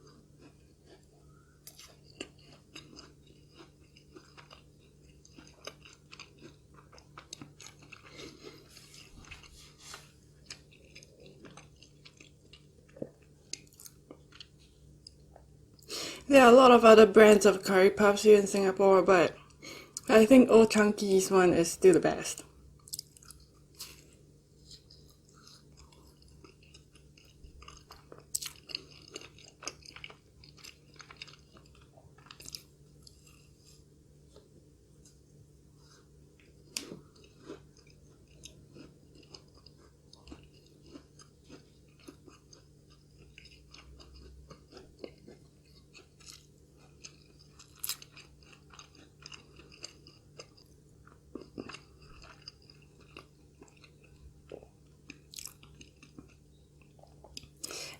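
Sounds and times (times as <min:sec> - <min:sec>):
crisp pastry crunching: 0:00.0 - 0:15.3, 0:21.8 - 0:33.8, 0:36.0 - 0:57.8
faint steady hum: 0:00.0 - 0:57.9.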